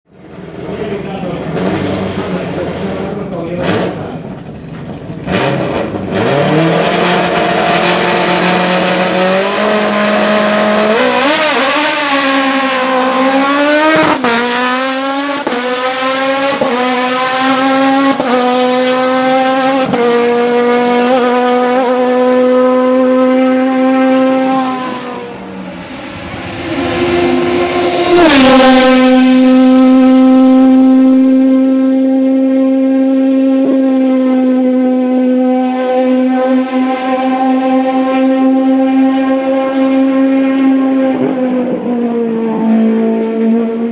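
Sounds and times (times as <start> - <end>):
racing engine wailing at high revs: 0.4 - 43.9.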